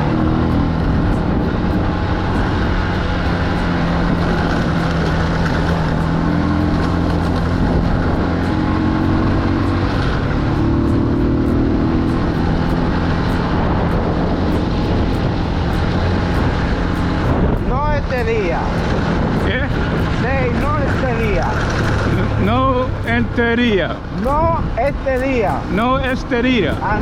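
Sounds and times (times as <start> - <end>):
small motorbike engine running: 0.0 - 27.0
wind and road noise: 0.0 - 27.0.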